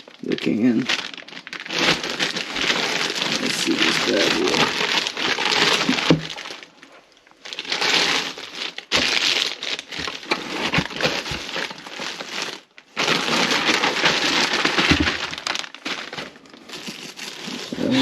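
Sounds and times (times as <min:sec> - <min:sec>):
packing material rustling: 0:00.0 - 0:18.0.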